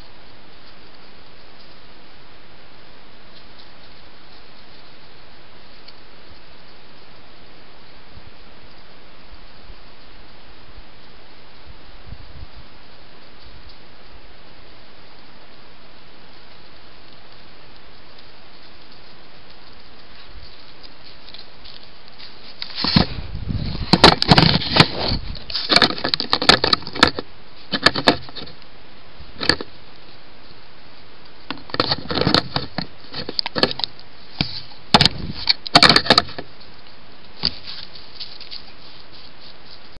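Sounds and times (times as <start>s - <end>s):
microphone hiss: 0.0s - 40.0s.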